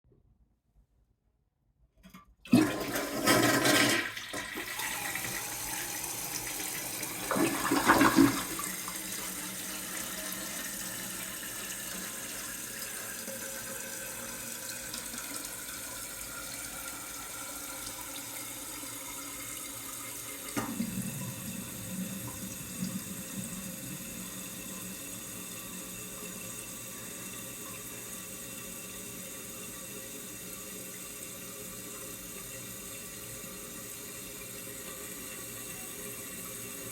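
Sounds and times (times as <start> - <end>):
toilet flushing: 2.4 - 36.9
toilet tank refilling hiss: 2.5 - 36.9.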